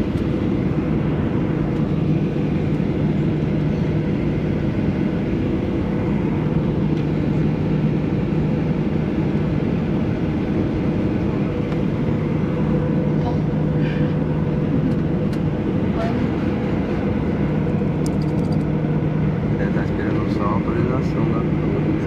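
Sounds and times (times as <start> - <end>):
jet engines humming in cabin: 0.0 - 22.0.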